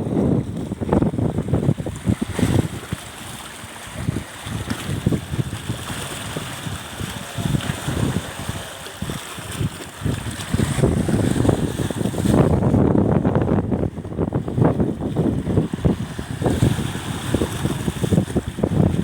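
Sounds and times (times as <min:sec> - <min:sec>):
rushing wind and water: 0:00.0 - 0:19.0
wind buffeting microphone: 0:00.0 - 0:19.0.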